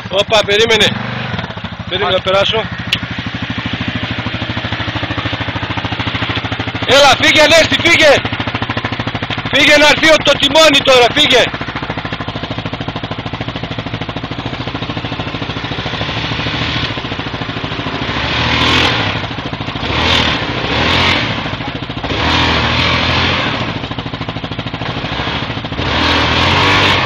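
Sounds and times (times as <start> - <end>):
quad bike engine revving: 0.0 - 27.0.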